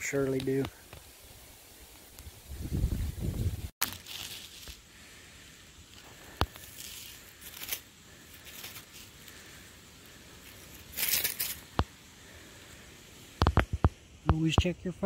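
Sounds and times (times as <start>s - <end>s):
dry leaves rustling: 0.0s - 13.5s.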